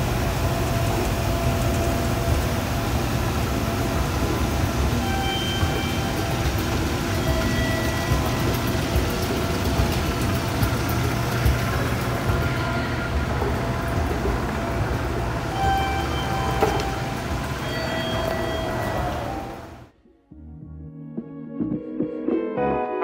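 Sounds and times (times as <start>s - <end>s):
escalator steps clicking: 0.0s - 19.8s
escalator rumble: 0.0s - 19.9s.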